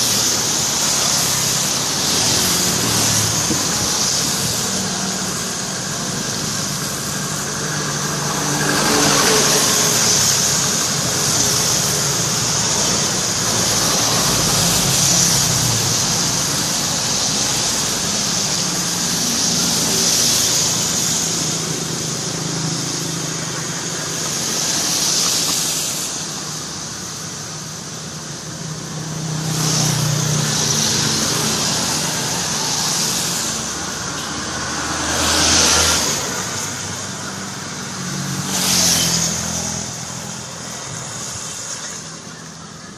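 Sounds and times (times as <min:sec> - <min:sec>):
hiss: 0:00.0 - 0:42.9.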